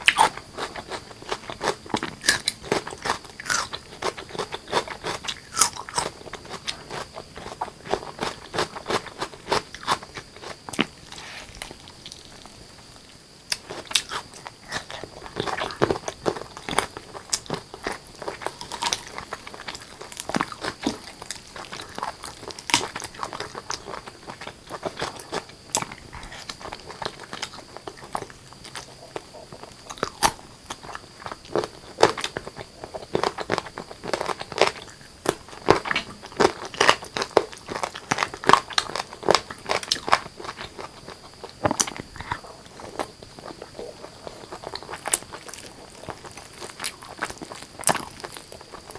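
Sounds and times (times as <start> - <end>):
close-miked eating and chewing: 0.0 - 48.9.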